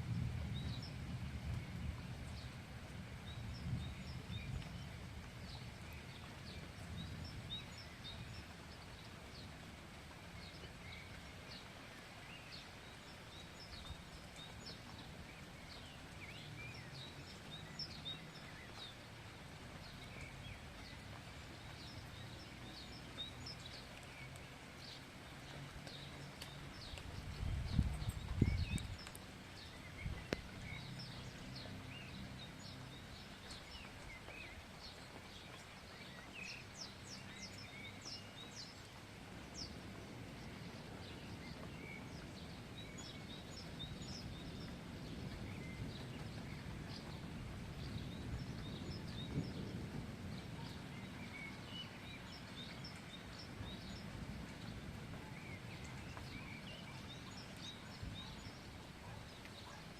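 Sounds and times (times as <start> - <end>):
birds chirping: 0.1 - 59.9.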